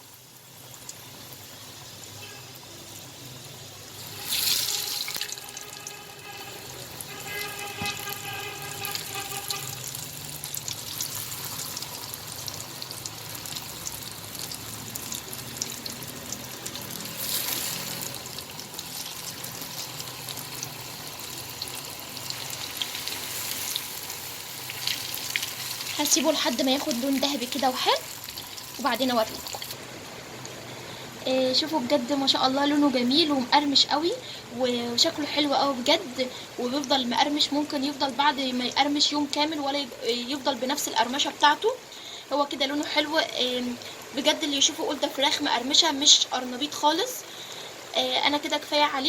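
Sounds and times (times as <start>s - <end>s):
food deep-frying in oil: 0.0s - 49.0s.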